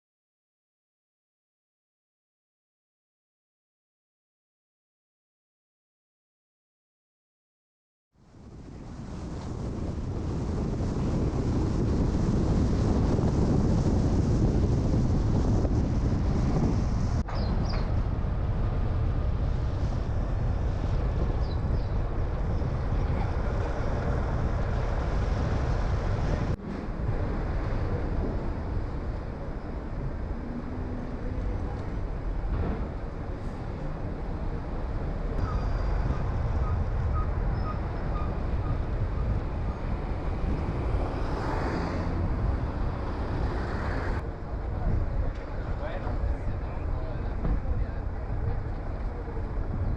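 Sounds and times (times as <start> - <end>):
car driving road noise: 8.2 - 49.9.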